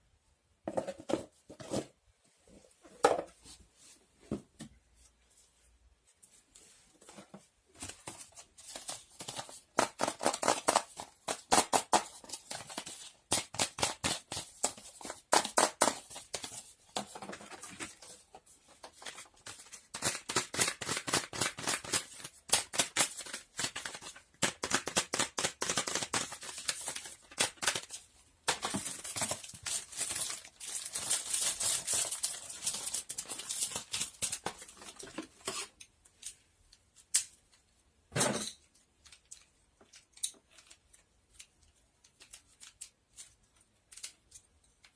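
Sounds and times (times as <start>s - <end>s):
rustling and crinkling of handled objects: 0.6s - 44.9s.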